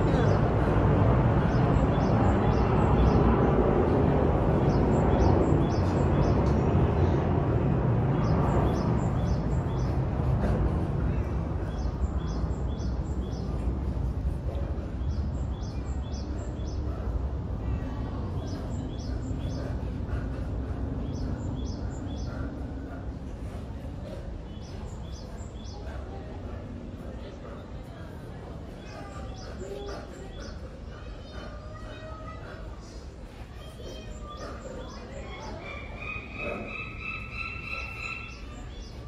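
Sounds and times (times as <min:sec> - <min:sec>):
low background noise: 0:00.0 - 0:39.0
small birds chirping: 0:00.0 - 0:39.0.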